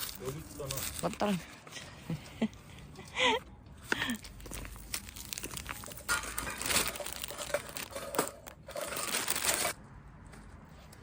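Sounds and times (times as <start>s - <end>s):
crinkling and rustling: 0.0s - 2.1s, 3.9s - 11.0s.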